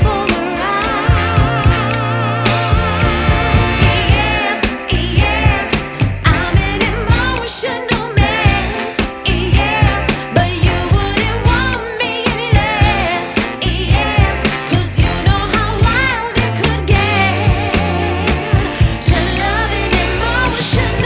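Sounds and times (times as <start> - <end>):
pop song with singing: 0.0 - 21.0.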